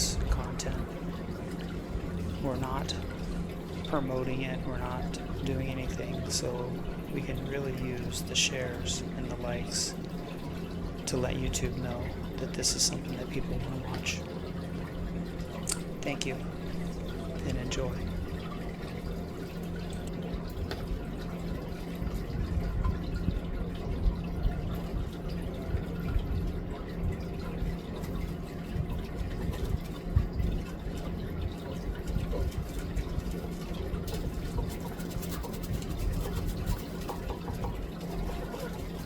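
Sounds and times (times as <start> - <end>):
low hum and rumble: 0.0 - 39.0
water trickling: 0.0 - 39.0.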